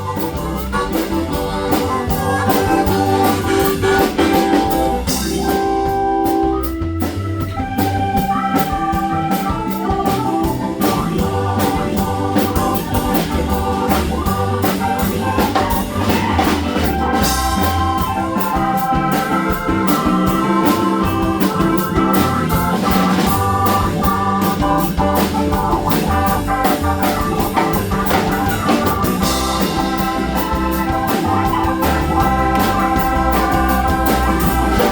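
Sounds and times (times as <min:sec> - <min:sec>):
bass line: 0:00.0 - 0:34.9
long held notes: 0:00.0 - 0:34.9
steady drum beat: 0:00.0 - 0:34.9.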